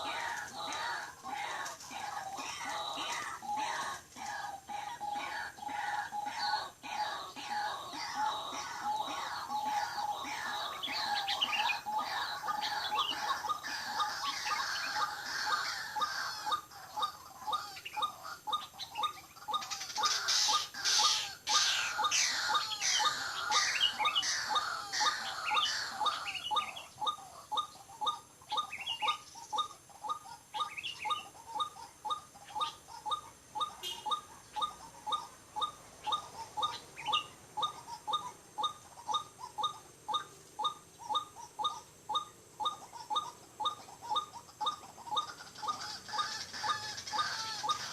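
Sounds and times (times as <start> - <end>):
bird monotonous call: 0.0 - 47.9
falling high-pitched bird calls: 0.0 - 47.9.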